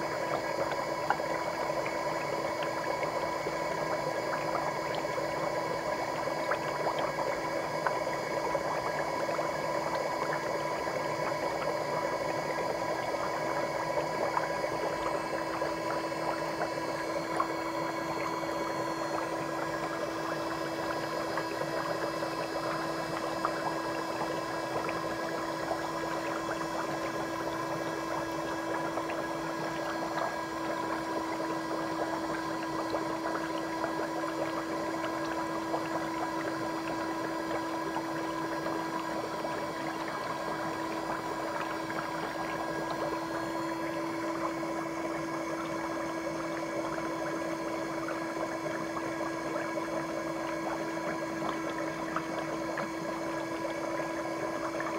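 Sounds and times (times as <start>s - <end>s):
motor hum: 0.0s - 54.9s
water bubbling: 0.0s - 54.9s.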